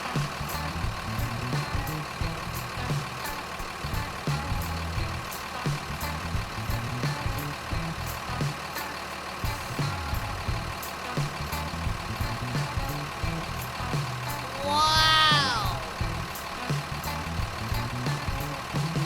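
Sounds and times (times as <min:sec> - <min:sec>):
background music with a beat: 0:00.0 - 0:19.0
vehicle engine running: 0:00.0 - 0:19.0.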